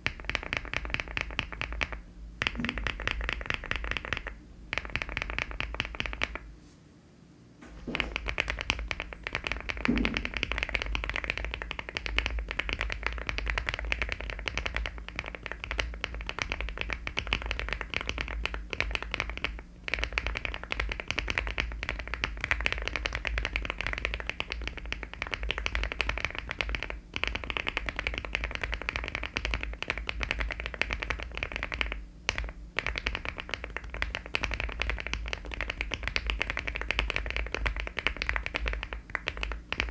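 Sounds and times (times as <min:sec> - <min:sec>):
fast mechanical keyboard typing: 0:00.0 - 0:06.4, 0:07.8 - 0:39.9.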